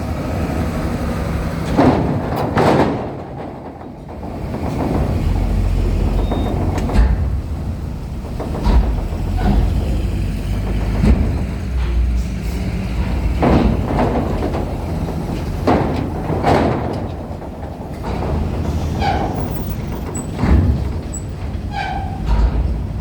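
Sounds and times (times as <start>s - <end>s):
heavy vehicle engines rumbling: 0.0s - 23.0s
ramp clanks and knocks: 0.0s - 23.0s.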